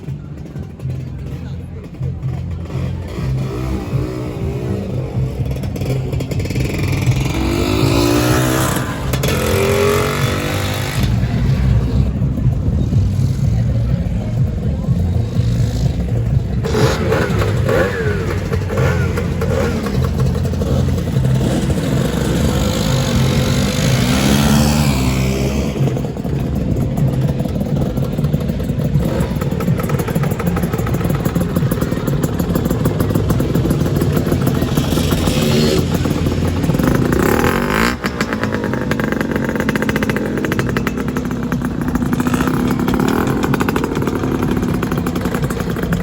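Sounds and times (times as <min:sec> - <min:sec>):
scooters revving past: 0:00.0 - 0:46.0.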